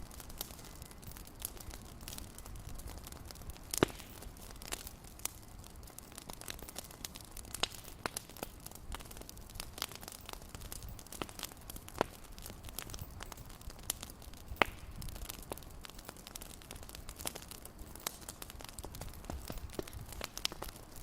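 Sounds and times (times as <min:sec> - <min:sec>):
low fire rumble: 0:00.0 - 0:21.0
wood fire crackling and popping: 0:00.0 - 0:21.0.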